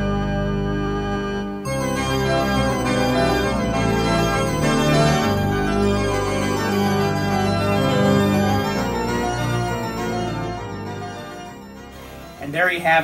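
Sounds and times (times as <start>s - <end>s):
synthesized organ chords: 0.0s - 13.0s.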